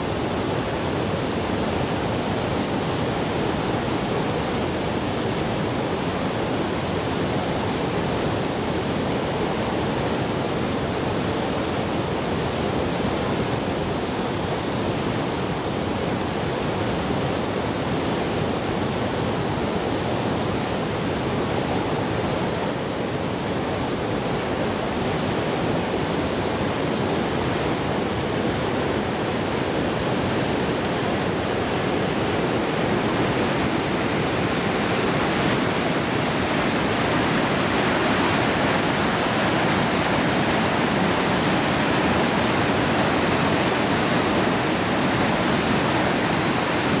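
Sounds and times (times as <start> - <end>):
river rapids roaring: 0.0 - 47.0.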